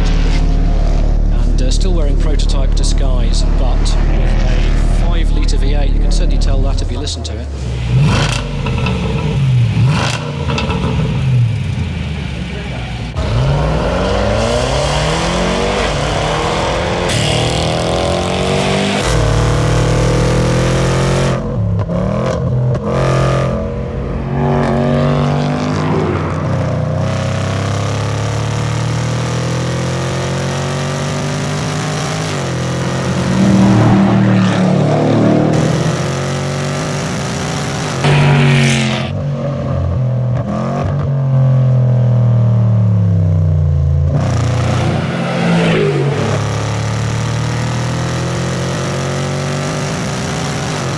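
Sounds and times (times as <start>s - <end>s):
car engine accelerating through gears: 0.0s - 50.9s.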